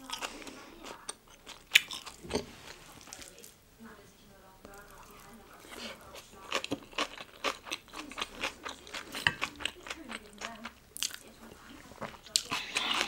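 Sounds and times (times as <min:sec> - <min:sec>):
chewing food: 0:00.0 - 0:03.6, 0:04.6 - 0:13.0.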